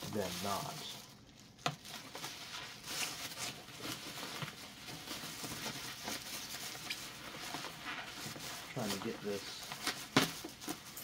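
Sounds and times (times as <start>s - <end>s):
plastic packaging rustling and crinkling: 0.0s - 11.0s.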